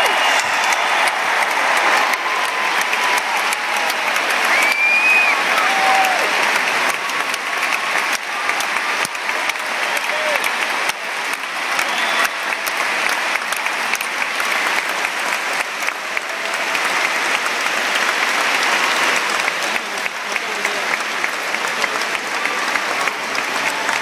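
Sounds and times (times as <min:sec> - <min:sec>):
crowd applauding: 0:00.0 - 0:24.0.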